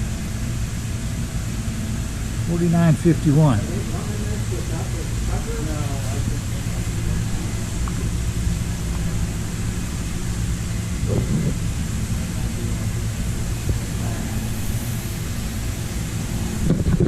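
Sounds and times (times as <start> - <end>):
constant hiss: 0.0 - 17.0
machinery hum: 0.0 - 17.0.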